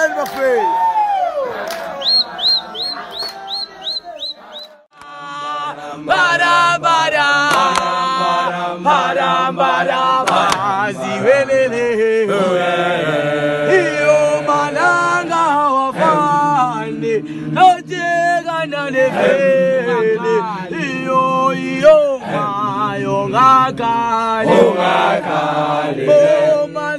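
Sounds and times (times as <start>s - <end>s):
group chanting in unison: 1.3s - 26.9s.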